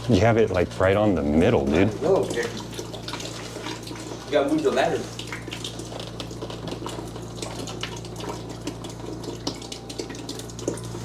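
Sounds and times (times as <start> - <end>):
water drips and splatters: 0.0 - 11.0
waste water splashing from pipe: 1.5 - 11.0.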